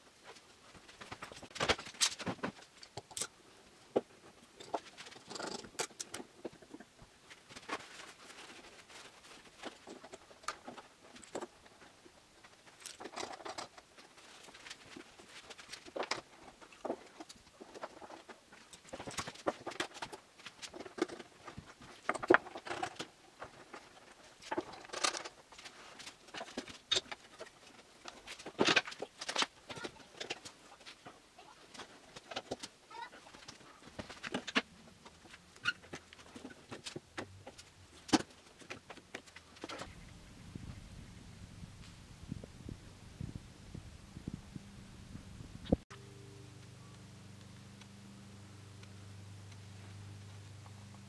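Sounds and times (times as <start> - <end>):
rustling: 0.0 - 51.0.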